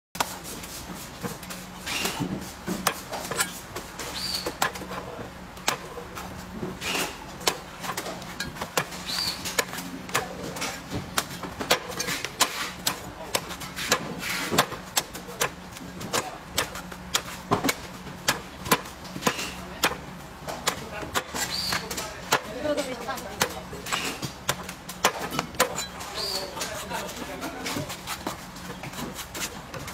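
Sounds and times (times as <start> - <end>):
cleaver chopping coconut husk: 1.3 - 5.0, 5.6 - 27.0.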